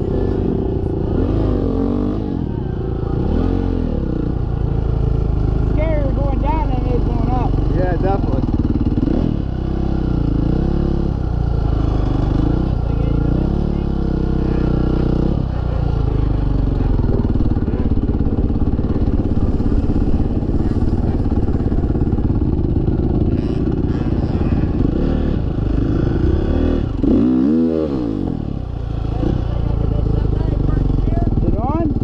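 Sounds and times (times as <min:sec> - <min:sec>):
dirt bike engine running: 0:00.0 - 0:32.0
engine revving: 0:00.0 - 0:32.0.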